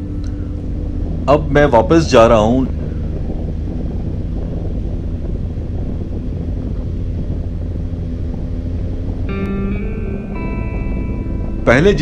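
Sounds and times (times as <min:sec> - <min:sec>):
motorcycle engine cruising: 0:00.0 - 0:12.0
wind noise on microphone: 0:00.0 - 0:12.0.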